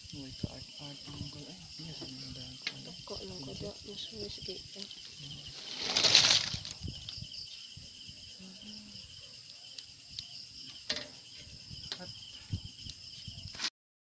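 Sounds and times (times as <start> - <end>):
crickets chirping: 0.0 - 13.7.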